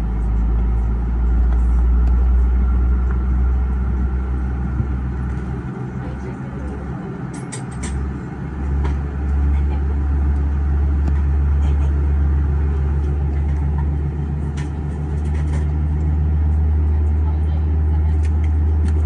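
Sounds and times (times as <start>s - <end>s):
airplane cabin hum: 0.0s - 19.0s.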